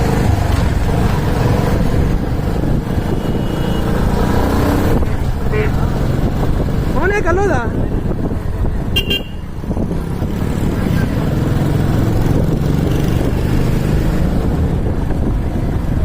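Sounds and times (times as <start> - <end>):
motorcycle engine and road rumble: 0.0 - 16.0
wind on microphone: 0.0 - 16.0.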